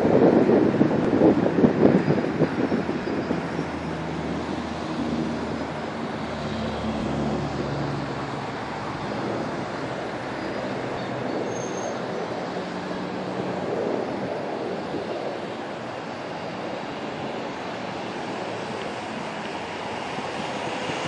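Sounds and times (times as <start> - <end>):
wind on microphone: 0.0 - 21.0
car engines running: 0.4 - 21.0.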